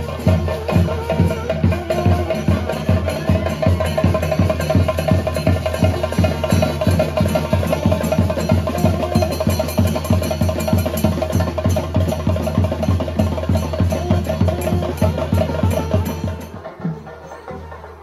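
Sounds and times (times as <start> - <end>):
fast drum beat: 0.0 - 18.0.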